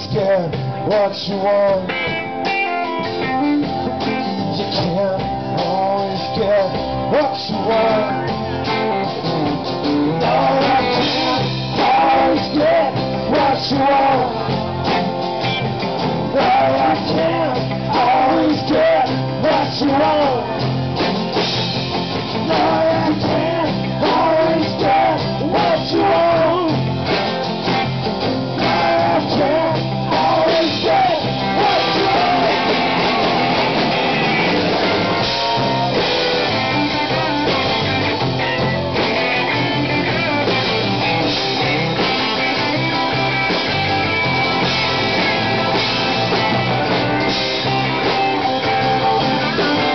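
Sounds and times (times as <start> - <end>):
acoustic and electric guitars: 0.0 - 49.9
drum kit: 0.0 - 49.9
live rock band playing: 0.0 - 49.9.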